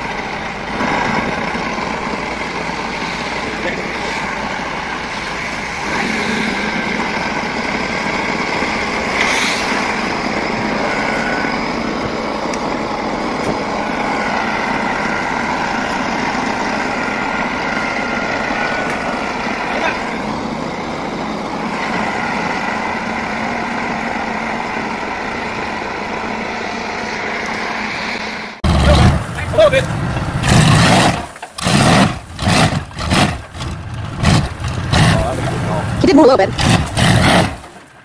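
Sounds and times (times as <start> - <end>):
high whine: 0.0 - 30.4
heavy tractor engines under load: 0.0 - 38.0.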